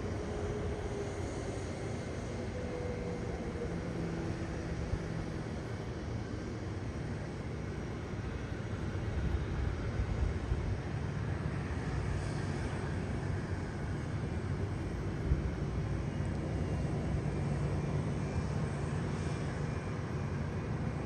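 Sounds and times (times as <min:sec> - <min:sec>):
airliner rumble and whine: 0:00.0 - 0:21.0.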